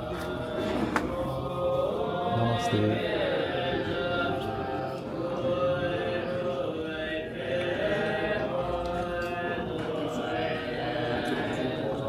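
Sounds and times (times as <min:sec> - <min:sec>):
monks chanting: 0:00.0 - 0:12.0.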